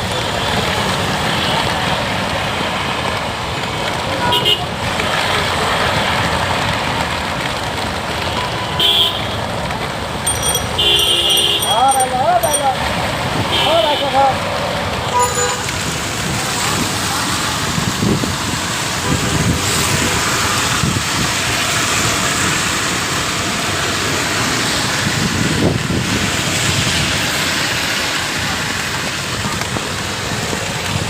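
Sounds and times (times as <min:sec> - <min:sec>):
passing traffic rumble: 0:00.0 - 0:31.0
steady rain: 0:00.0 - 0:31.0
wet road noise: 0:00.0 - 0:31.0.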